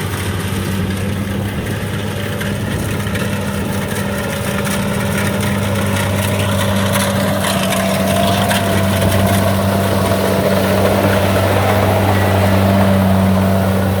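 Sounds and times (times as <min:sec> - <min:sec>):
combine harvester engine hum: 0:00.0 - 0:14.0
machinery whine: 0:00.0 - 0:14.0.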